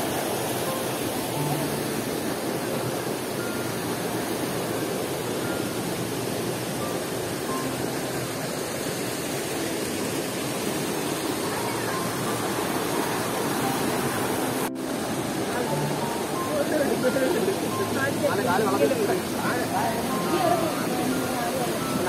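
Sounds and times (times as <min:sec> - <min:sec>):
stream rushing between boulders: 0:00.0 - 0:22.0.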